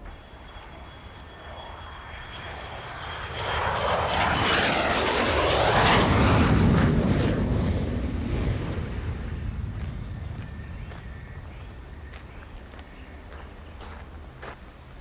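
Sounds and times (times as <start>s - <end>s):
aircraft flying over: 0.0s - 15.0s.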